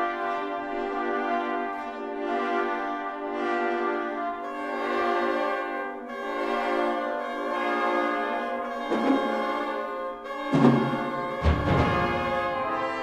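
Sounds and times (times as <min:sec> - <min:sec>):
orchestral brass and woodwinds: 0:00.0 - 0:13.0.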